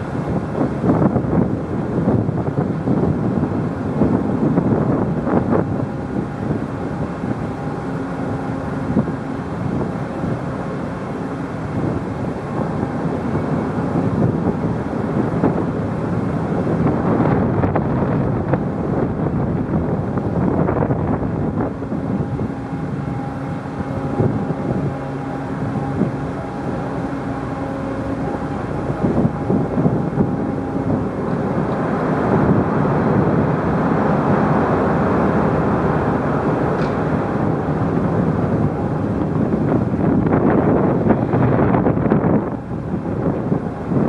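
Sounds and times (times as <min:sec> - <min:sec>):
ship engines: 0:00.0 - 0:44.0
steady humming tones: 0:00.0 - 0:44.0
wind buffeting microphone: 0:00.0 - 0:44.0.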